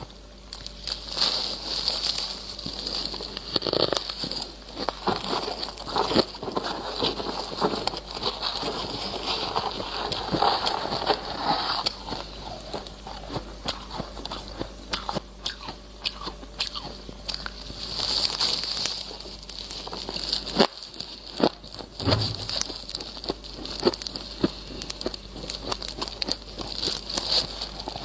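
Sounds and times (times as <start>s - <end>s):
frost being chewed crunching: 0.4s - 28.0s.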